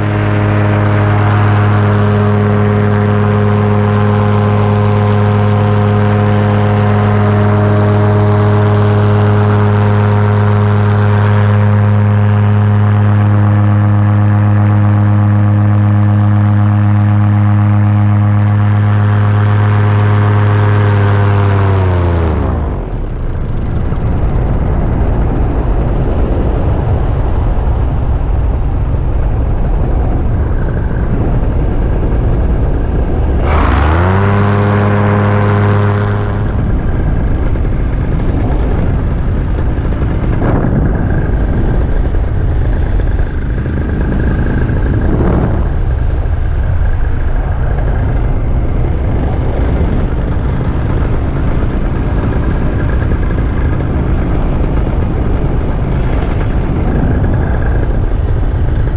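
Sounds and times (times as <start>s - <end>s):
paramotor engine and propeller: 0.0s - 58.9s.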